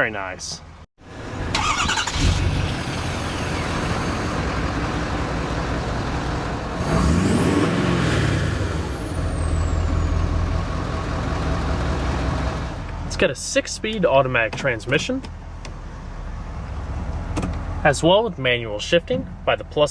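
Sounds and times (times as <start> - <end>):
diesel truck engine running: 1.1 - 18.2.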